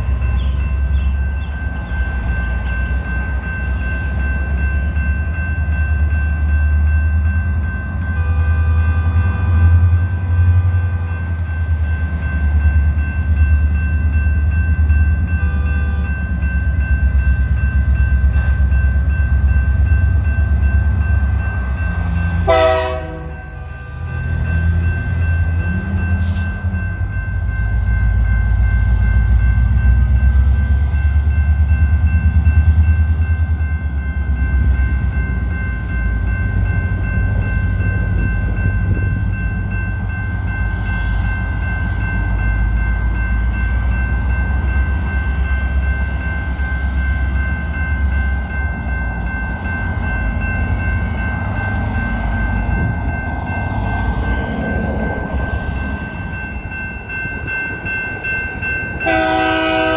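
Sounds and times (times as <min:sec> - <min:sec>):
crossing warning bells: 0:00.0 - 0:59.9
diesel locomotive rumbling: 0:00.0 - 0:59.9.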